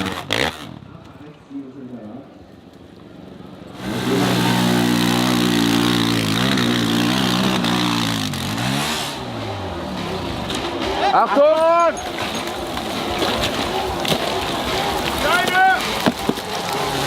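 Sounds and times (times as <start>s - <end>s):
dirt bike engine revving: 0.0s - 1.0s, 3.2s - 17.0s.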